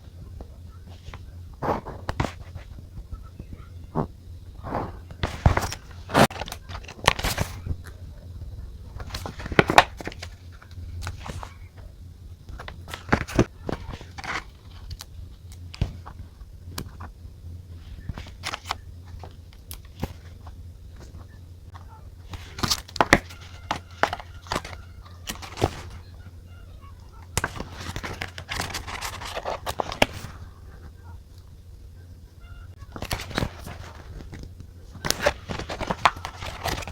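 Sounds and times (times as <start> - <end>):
steady low hum: 0.0 - 36.9
paper rustling and scratching: 0.4 - 11.9, 12.5 - 26.3, 27.0 - 31.0, 32.8 - 36.9.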